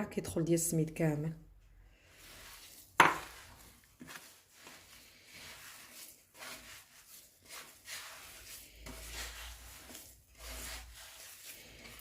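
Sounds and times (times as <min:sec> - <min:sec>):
hands mixing crumbly dough: 0:00.9 - 0:12.0.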